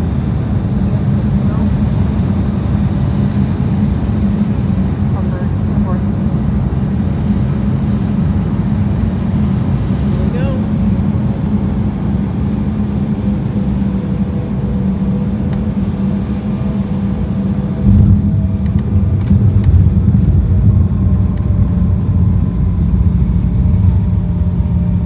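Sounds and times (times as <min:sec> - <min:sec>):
jet engines droning: 0:00.0 - 0:25.0
plane touchdown rumble and rattling: 0:00.0 - 0:25.0.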